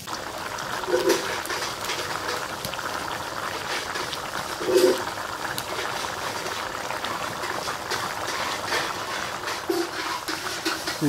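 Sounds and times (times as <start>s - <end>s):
curry boiling and bubbling: 0.0s - 11.0s.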